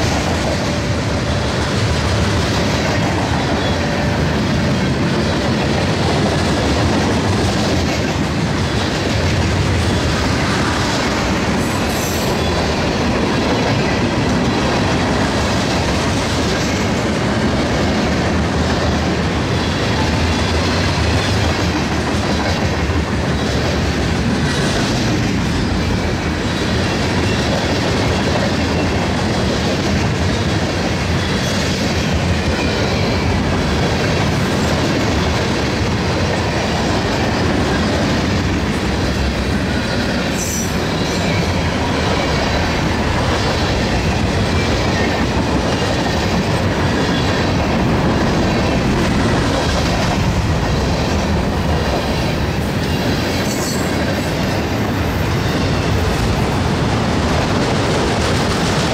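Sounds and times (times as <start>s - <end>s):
clickety-clack over rail joints: 0.0s - 58.9s
train wheels rumbling on rail: 0.0s - 58.9s.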